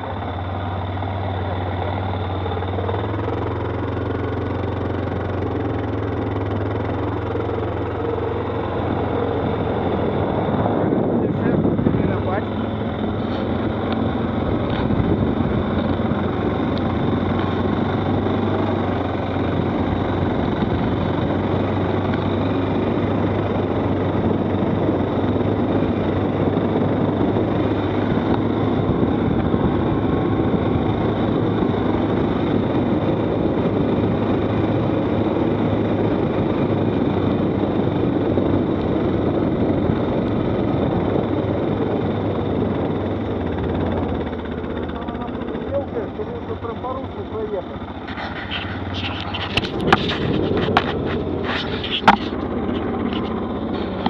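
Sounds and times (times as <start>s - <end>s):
constant rushing noise: 0.0s - 54.0s
quad bike engine running: 0.0s - 54.0s.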